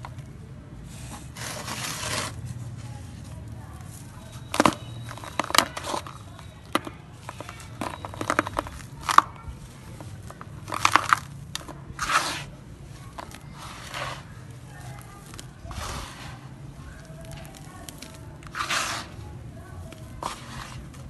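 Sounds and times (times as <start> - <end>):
hands crushing dry sand-cement: 0.0 - 21.0.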